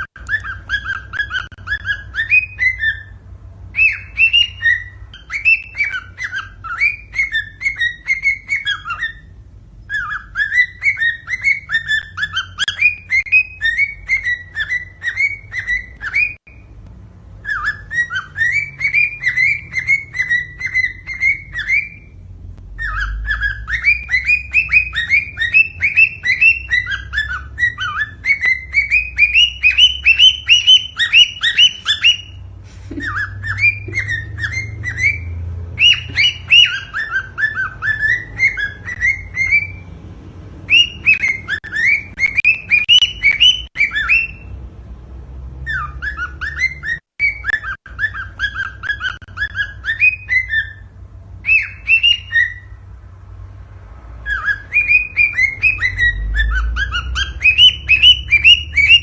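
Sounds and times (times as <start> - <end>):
cockatiel chirping whistles: 0.0 - 16.7, 17.4 - 39.8, 40.6 - 44.5, 45.6 - 52.8, 54.2 - 59.0.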